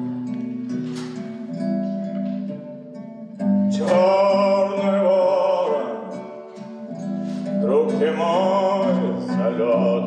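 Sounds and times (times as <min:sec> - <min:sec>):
plucked lute melody: 0:00.0 - 0:10.0.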